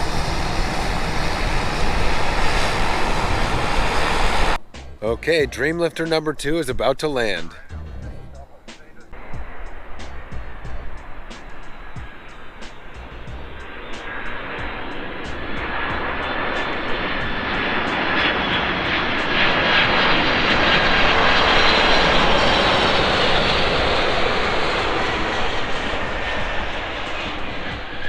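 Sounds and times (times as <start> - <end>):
jet aircraft passing low: 0.0 - 28.0
jet engine whine: 0.0 - 28.0.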